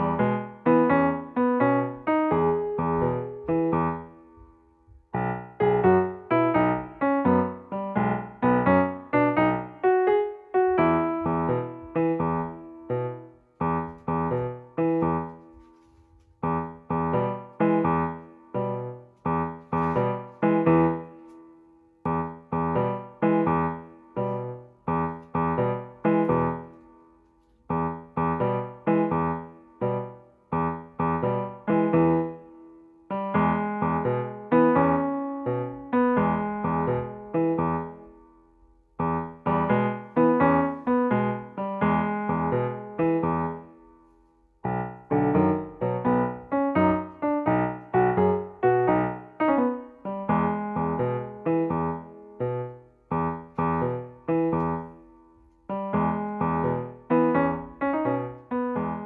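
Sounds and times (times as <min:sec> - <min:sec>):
piano playing gentle chords: 0:00.0 - 0:59.0.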